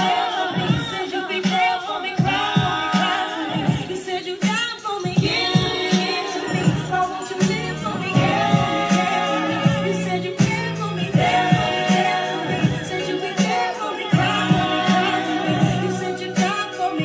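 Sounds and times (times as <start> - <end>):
song with sung vocals over a beat: 0.0 - 17.0.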